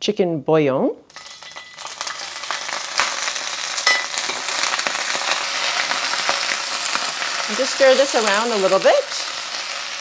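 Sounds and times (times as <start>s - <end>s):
vegetables sizzling in hot oil: 1.1s - 10.0s.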